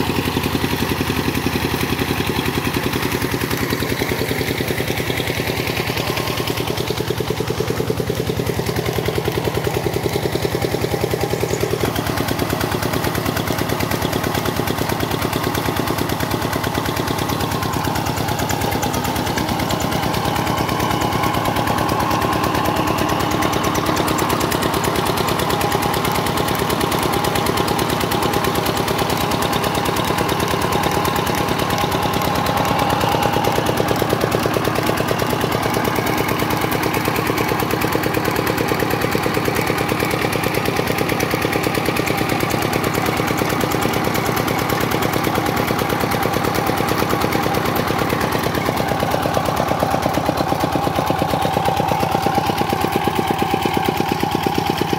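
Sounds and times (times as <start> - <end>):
diesel engine knocking: 0.0 - 54.9.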